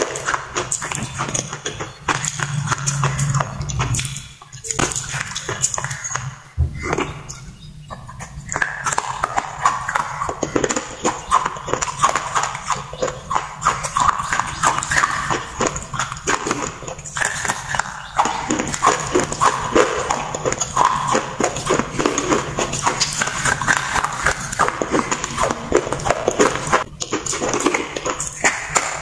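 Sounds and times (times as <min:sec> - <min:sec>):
chewing crunches: 0:00.0 - 0:06.3, 0:08.2 - 0:29.0
mouth clicks: 0:00.0 - 0:29.0.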